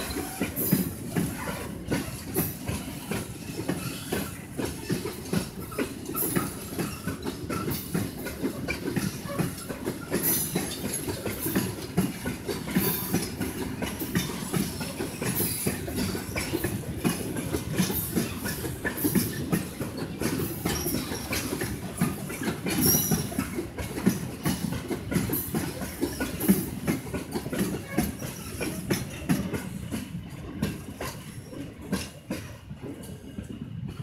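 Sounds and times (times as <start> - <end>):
train wheels clacking on rail joints: 0.0 - 34.0.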